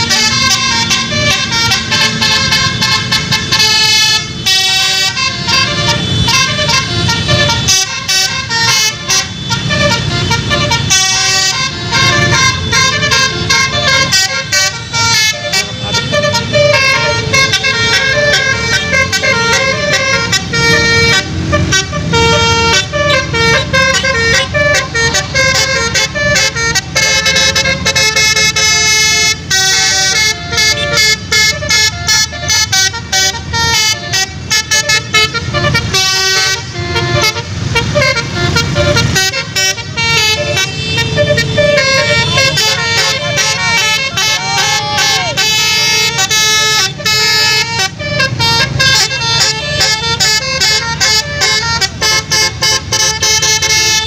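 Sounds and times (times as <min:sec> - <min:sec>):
bus and motorcycle engines rumbling: 0:00.0 - 0:54.0
multi-tone bus horn melody: 0:00.0 - 0:54.0.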